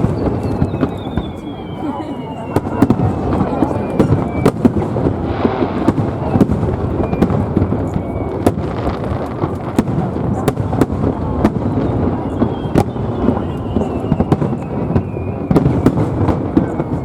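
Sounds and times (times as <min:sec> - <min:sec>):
fireworks cracking: 0:00.0 - 0:17.0.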